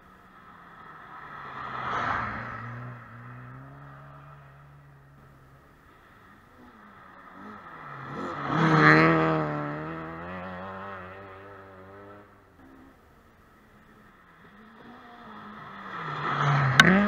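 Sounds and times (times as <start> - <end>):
rally car engine passing at speed: 0.3 - 17.0.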